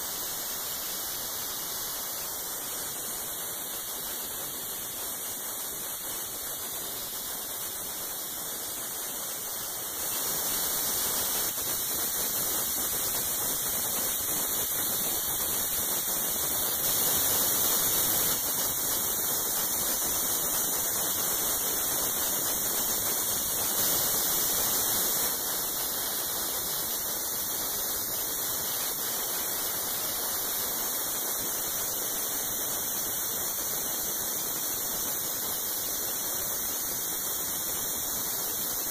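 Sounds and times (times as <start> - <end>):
hiss of blast nozzle: 0.0 - 38.9.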